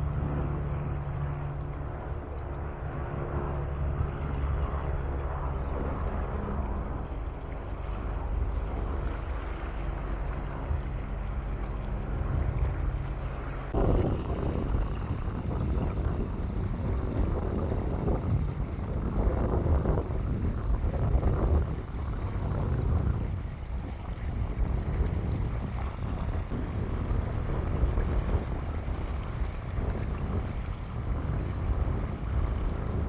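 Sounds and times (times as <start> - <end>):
boat engine humming: 0.0 - 33.0
water noise: 0.0 - 33.0
wind rumble on microphone: 0.0 - 33.0.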